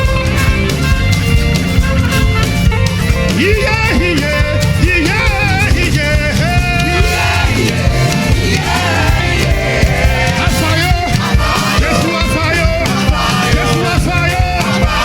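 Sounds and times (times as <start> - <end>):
live band playing dance music: 0.0 - 15.0
singing or guitar melody: 0.0 - 15.0.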